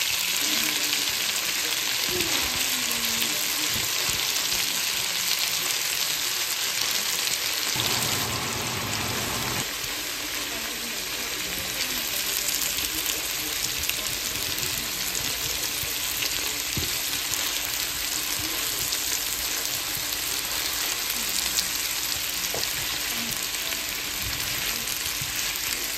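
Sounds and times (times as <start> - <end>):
food sizzling in hot oil: 0.0 - 25.9.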